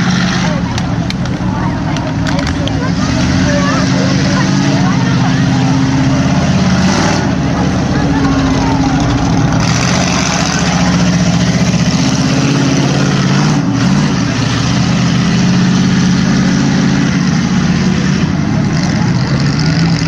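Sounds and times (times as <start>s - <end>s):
truck engine running loud: 0.0s - 20.0s.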